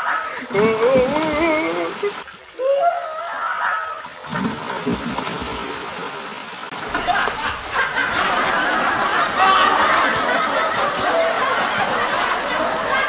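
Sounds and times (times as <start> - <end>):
stream rushing: 0.0 - 2.7, 4.0 - 13.0
person wading splashing water: 0.0 - 13.0.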